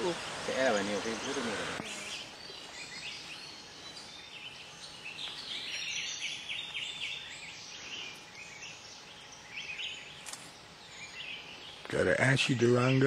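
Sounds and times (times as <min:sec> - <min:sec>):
steady background hiss: 0:00.0 - 0:13.0
wild birds chirping: 0:00.0 - 0:13.0.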